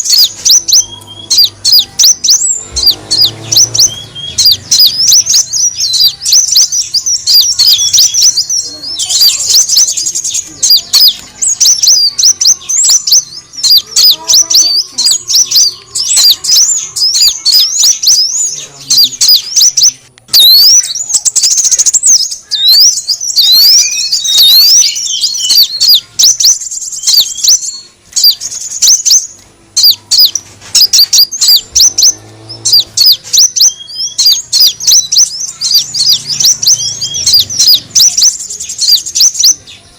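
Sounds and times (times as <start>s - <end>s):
bird chirps and twitters: 0.0s - 39.9s.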